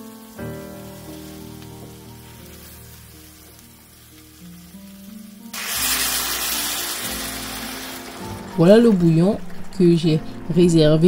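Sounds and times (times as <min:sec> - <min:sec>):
loud hissing sizzle: 0:00.0 - 0:09.2
background music with held notes: 0:00.0 - 0:11.0.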